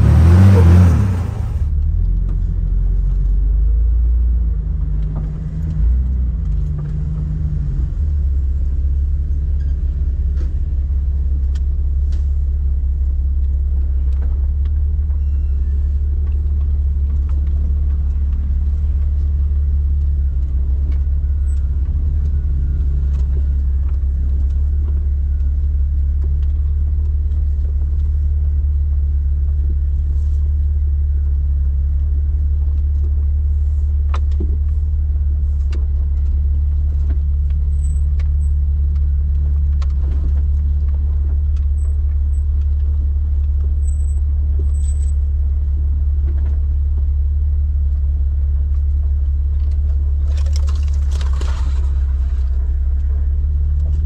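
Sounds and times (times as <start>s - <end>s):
car engine rumbling at low revs: 0.0s - 54.0s.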